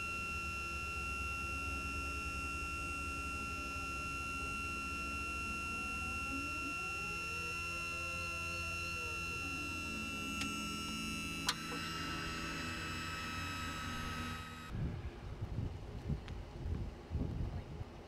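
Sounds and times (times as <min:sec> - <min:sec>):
hydraulic pump whining: 0:00.0 - 0:14.8.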